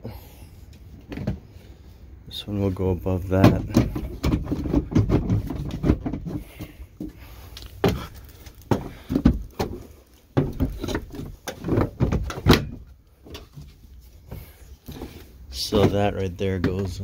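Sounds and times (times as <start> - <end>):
plastic tool boxes clacking: 3.2 - 17.0.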